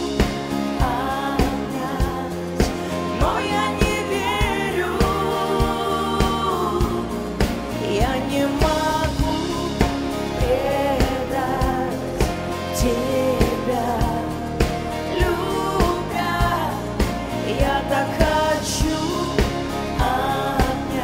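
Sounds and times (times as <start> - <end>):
band playing pop song: 0.0 - 21.0
person singing melody: 0.0 - 21.0
steady drum beat: 0.0 - 21.0.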